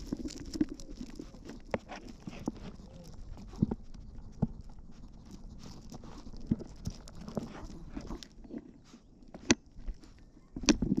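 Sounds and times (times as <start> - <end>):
small dog moving on gravelly grass: 0.0 - 9.1.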